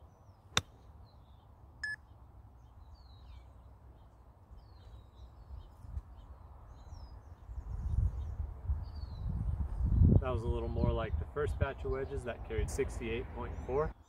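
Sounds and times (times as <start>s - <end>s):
small birds chirping: 0.0s - 12.4s, 13.0s - 14.0s.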